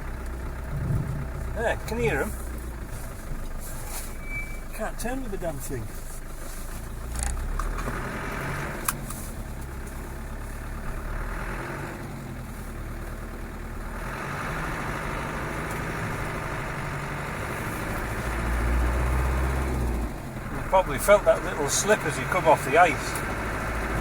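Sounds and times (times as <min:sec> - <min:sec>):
car engine running: 0:00.0 - 0:24.0
tyre and road noise: 0:00.0 - 0:24.0.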